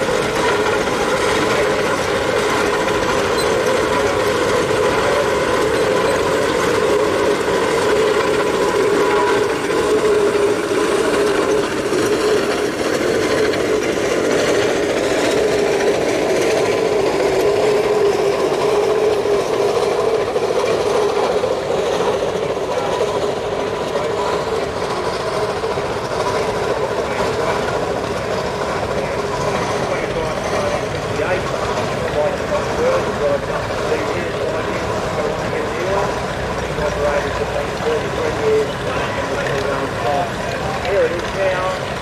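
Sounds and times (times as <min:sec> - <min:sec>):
steam engines clattering: 0:00.0 - 0:42.0.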